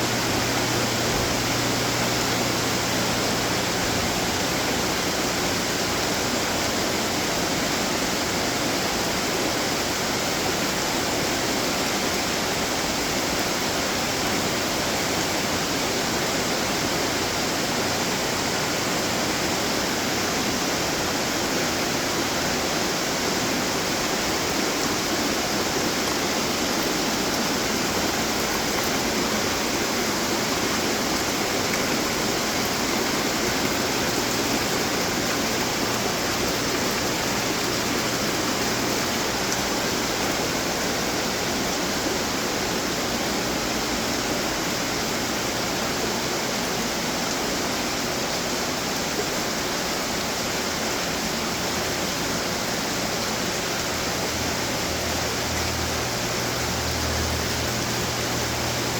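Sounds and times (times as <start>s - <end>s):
fountains splashing water: 0.0s - 58.9s.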